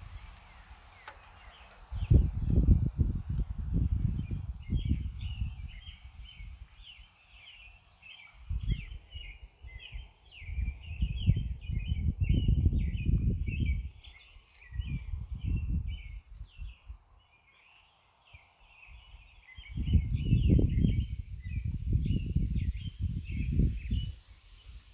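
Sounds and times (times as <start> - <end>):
birds chirping: 0.0 - 24.8.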